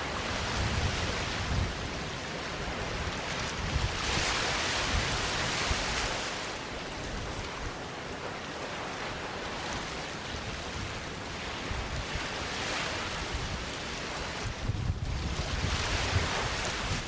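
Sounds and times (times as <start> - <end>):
small waves washing onto beach: 0.0 - 17.0.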